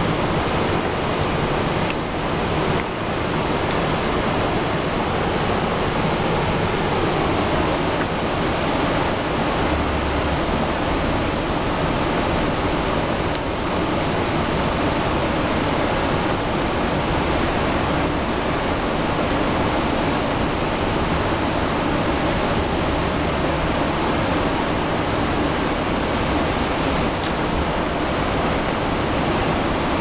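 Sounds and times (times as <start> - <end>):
water rushing through dam gates: 0.0 - 30.0.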